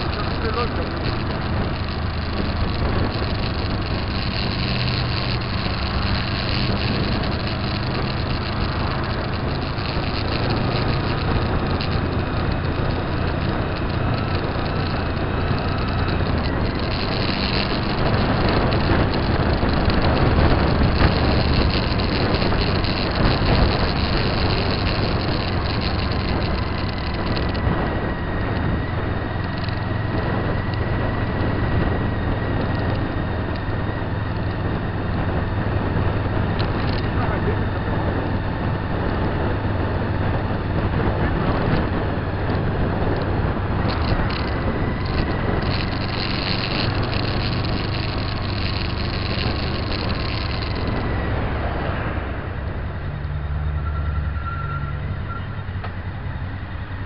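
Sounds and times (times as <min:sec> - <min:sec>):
vehicle engine and road noise: 0:00.0 - 0:57.0
wind rumbling on microphone: 0:00.0 - 0:57.0.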